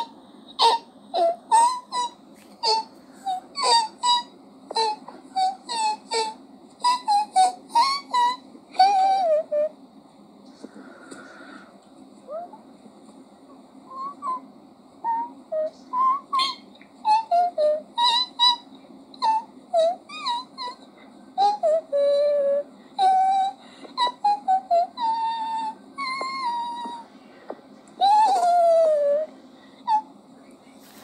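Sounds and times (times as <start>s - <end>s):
high-pitched whimpers and squeals: 0.0s - 9.8s, 12.2s - 12.7s, 13.5s - 27.1s, 28.0s - 30.2s.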